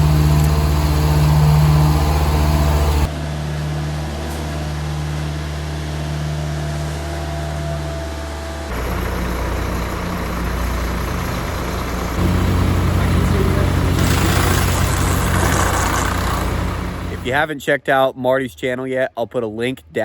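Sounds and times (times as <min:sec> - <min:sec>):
heavy truck engine running: 0:00.0 - 0:17.4.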